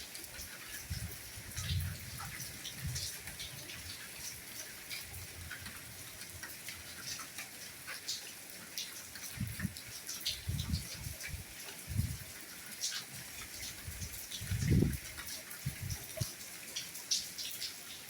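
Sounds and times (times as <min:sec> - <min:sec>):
raindrops ticking close by: 0:00.0 - 0:18.0
soft rain falling: 0:00.0 - 0:18.0.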